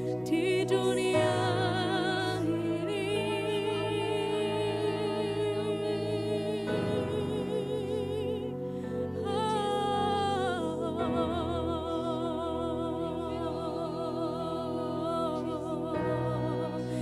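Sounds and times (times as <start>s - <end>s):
person singing with vibrato: 0.0s - 17.0s.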